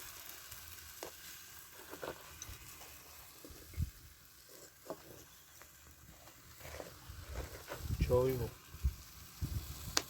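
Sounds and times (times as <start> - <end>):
low steady hiss: 0.0 - 10.0.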